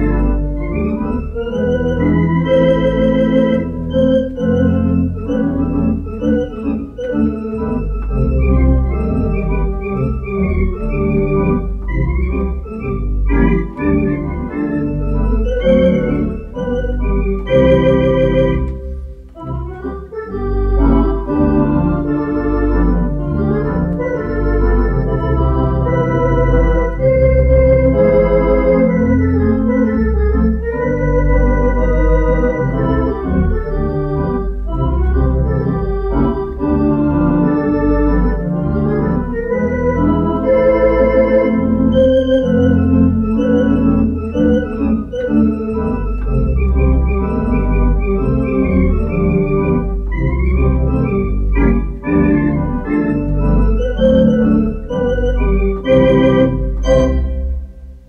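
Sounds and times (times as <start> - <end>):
low organ pedal bass notes: 0.0 - 58.0
pipe organ playing chords: 0.0 - 58.0.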